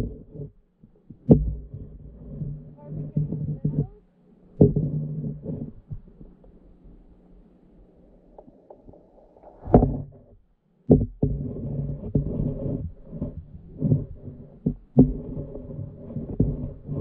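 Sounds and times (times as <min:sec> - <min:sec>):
muffled underwater water rumble: 0:00.0 - 0:00.4, 0:01.0 - 0:10.4, 0:11.0 - 0:17.0
dull knocks and thumps: 0:00.0 - 0:07.1, 0:08.4 - 0:17.0.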